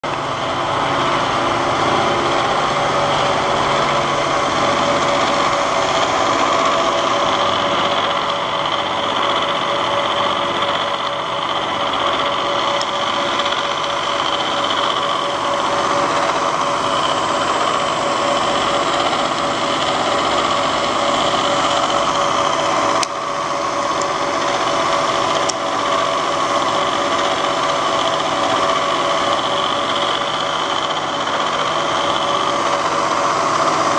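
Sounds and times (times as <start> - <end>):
milling machine motor humming: 0.0 - 33.9.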